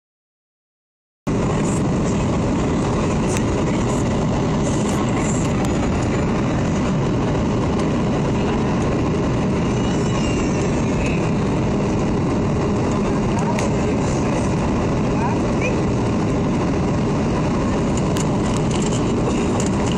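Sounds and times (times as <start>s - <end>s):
airliner cabin engine noise: 1.3s - 19.9s.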